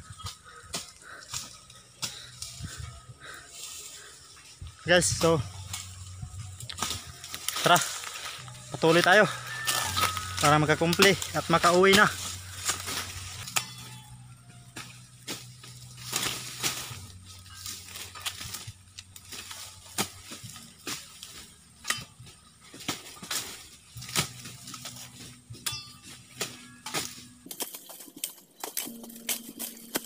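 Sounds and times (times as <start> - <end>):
dry leaves rustling: 0.0 - 30.0
machete chopping cane stalks: 0.2 - 2.7, 5.0 - 14.1, 14.7 - 30.0.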